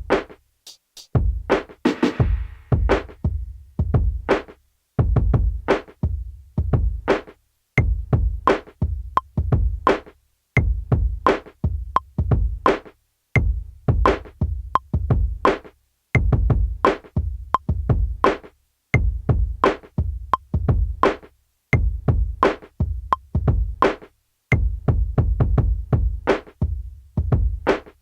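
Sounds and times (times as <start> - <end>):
hip-hop drum beat: 0.0 - 28.0.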